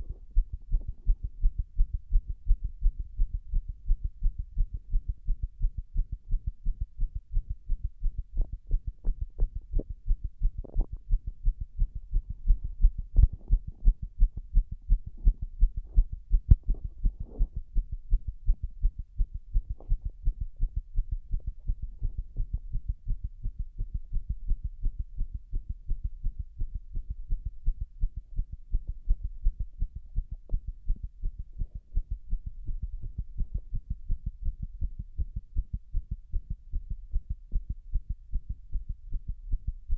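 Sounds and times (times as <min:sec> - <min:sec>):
heartbeat thuds: 0:00.0 - 0:39.9.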